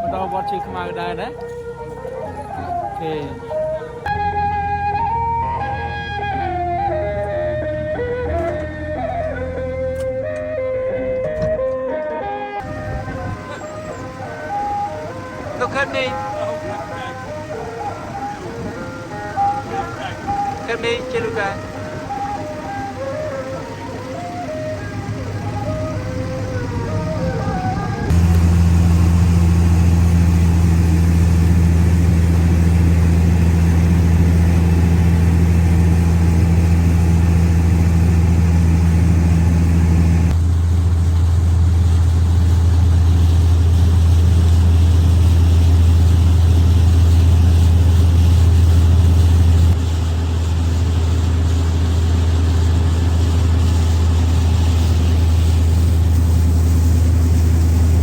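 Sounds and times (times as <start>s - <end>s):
speedboat engine droning: 0.0s - 58.0s.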